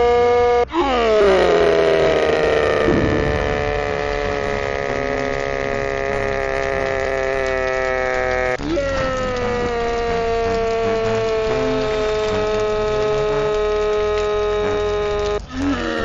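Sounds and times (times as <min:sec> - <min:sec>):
low drawn-out cartoon tone: 0:00.0 - 0:15.4.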